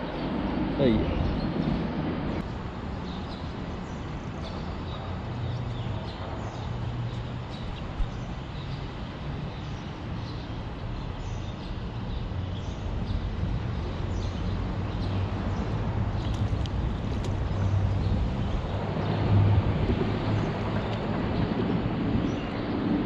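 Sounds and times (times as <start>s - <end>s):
traffic rumble on bridge: 0.0s - 23.0s.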